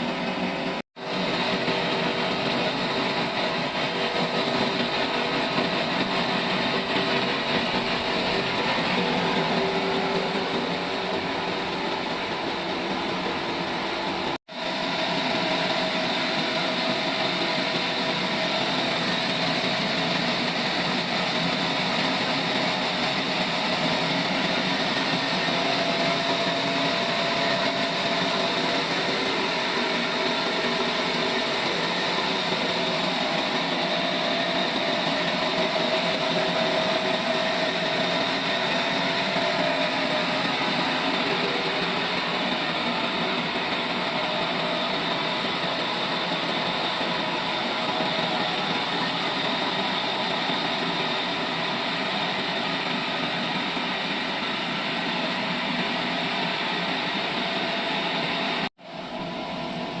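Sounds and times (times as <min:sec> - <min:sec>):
sawmill machinery sawing wood: 0:00.0 - 0:58.7.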